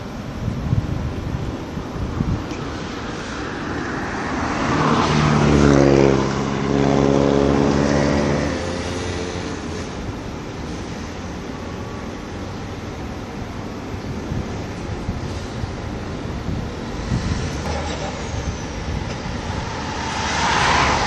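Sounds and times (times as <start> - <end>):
heavy truck passing: 1.2 - 21.0.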